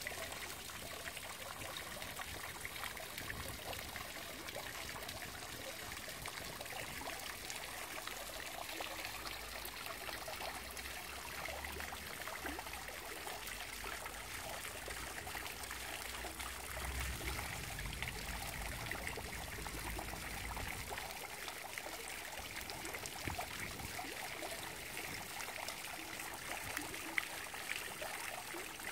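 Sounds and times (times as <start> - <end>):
fountain water splashing: 0.0 - 28.9.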